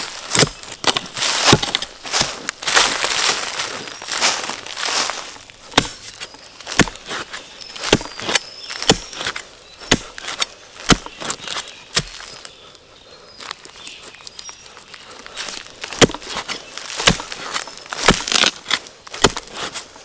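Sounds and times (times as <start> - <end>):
dry plant litter crunching: 0.0 - 12.8, 13.4 - 20.0.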